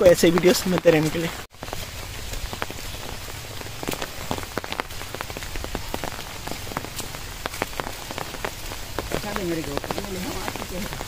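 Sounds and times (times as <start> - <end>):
close raindrop hits: 0.0 - 11.0
steady rain: 0.0 - 11.0.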